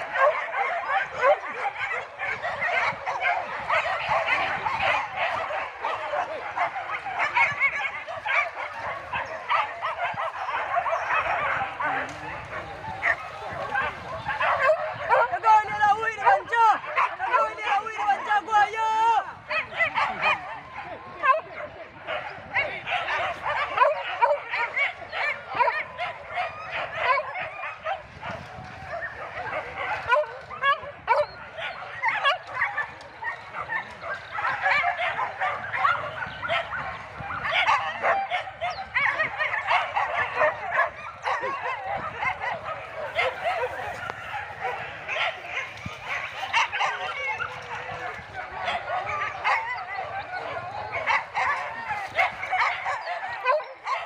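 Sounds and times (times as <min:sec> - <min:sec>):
pack of dogs barking and yelping: 0:00.0 - 0:54.0.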